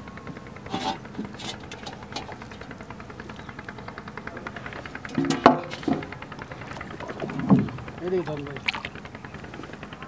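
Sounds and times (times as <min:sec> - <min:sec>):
small engine knocking rhythmically: 0:00.0 - 0:10.0.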